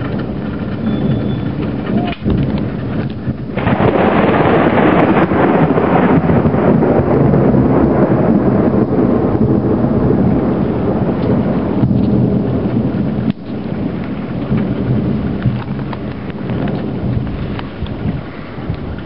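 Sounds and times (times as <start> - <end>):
heavy rain: 0.0 - 19.0
raindrops ticking: 0.0 - 19.0
thunder rumbling: 0.0 - 19.0.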